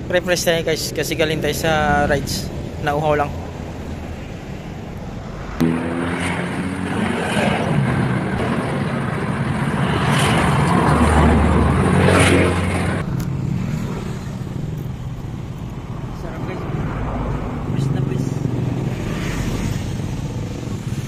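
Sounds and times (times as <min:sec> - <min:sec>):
vehicle engine passing: 0:01.1 - 0:21.0.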